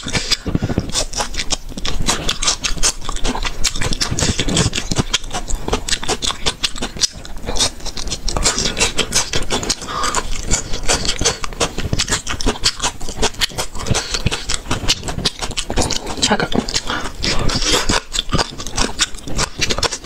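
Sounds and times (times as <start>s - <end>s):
chewing and lip-smacking: 0.0s - 20.0s.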